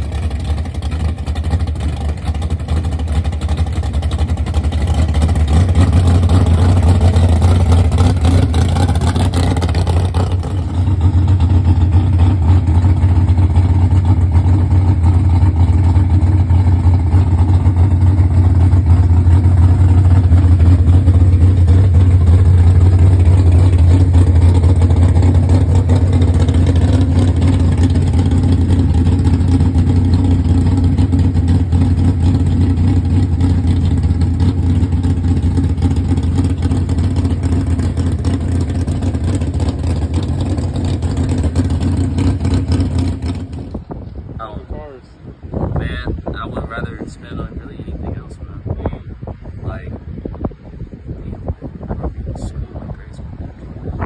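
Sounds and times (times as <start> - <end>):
car engine idling loudly: 0.0 - 54.0.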